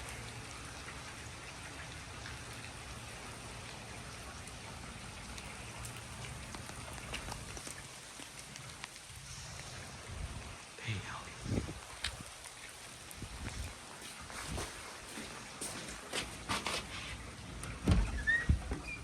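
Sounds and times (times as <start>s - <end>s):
raindrop ticks: 0.0s - 16.9s
rain falling: 0.0s - 19.0s.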